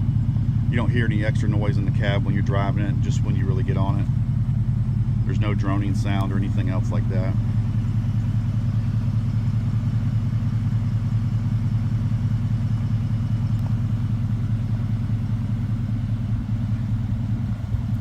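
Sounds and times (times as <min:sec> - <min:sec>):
truck exhaust idling: 0:00.0 - 0:18.0.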